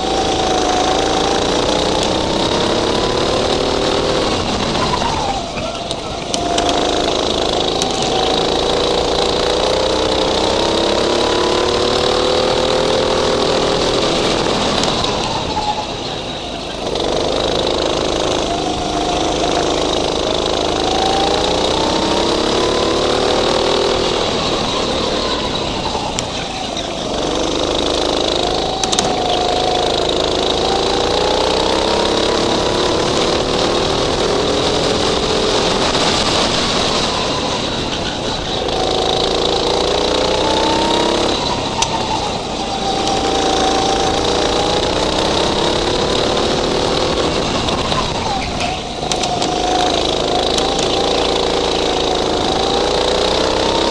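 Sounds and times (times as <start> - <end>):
go-kart engine accelerating: 0.0 - 53.9.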